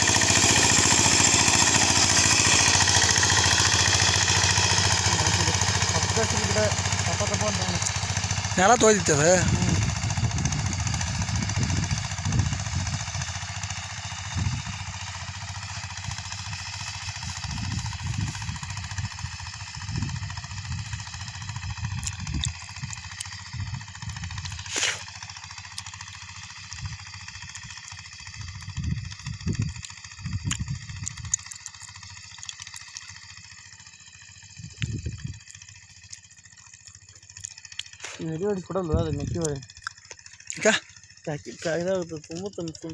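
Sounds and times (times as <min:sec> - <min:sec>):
tractor engine whining: 0:00.0 - 0:42.9.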